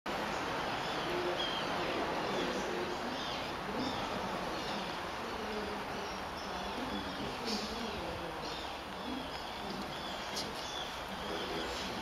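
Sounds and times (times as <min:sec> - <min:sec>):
distant small birds chirping: 0:00.1 - 0:12.0
steady background hiss: 0:00.1 - 0:12.0.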